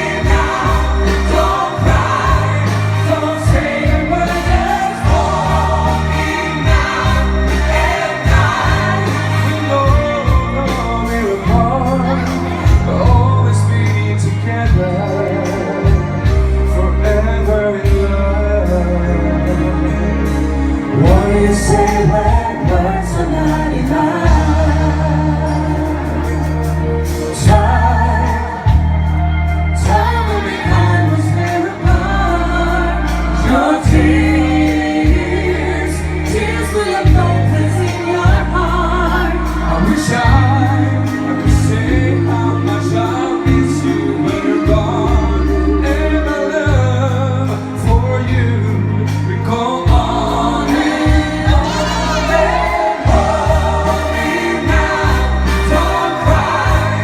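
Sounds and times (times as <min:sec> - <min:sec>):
band playing pop ballad: 0:00.0 - 0:57.0
sung vocals: 0:00.0 - 0:57.0.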